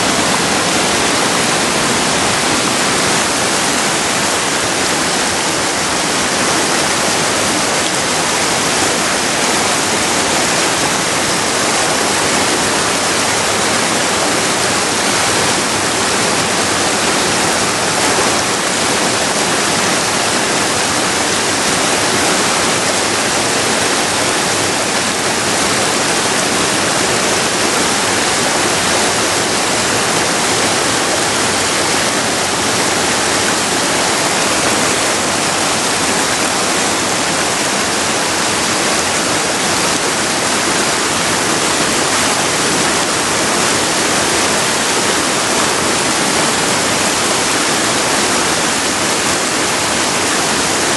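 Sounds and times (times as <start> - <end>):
river water rushing over rapids: 0.0 - 50.9.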